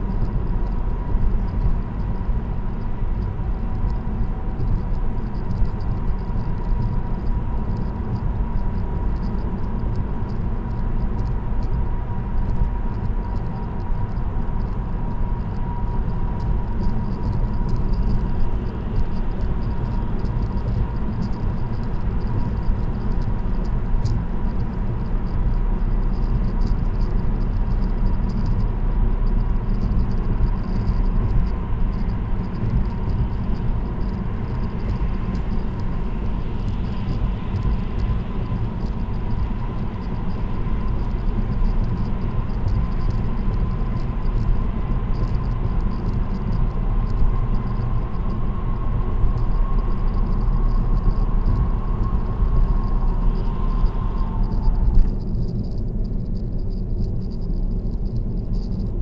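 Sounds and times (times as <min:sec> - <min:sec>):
car road noise rumble: 0:00.0 - 0:59.0
faint steady hum: 0:00.0 - 0:59.0.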